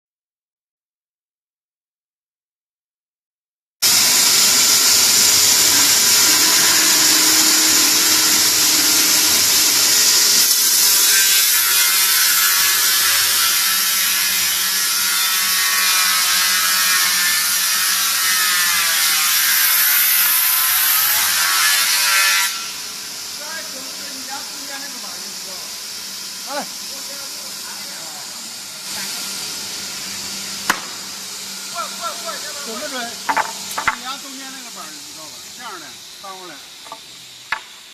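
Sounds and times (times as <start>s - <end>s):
wood moulder machine cutting board: 3.8s - 37.7s.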